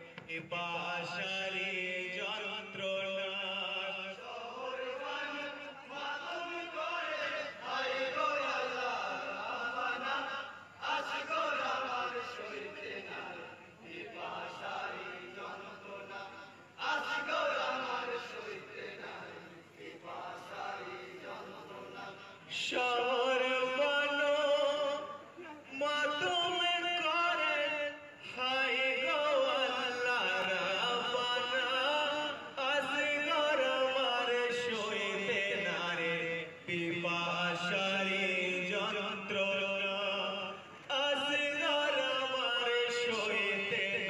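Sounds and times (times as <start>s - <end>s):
men chanting in unison: 0.0s - 44.0s.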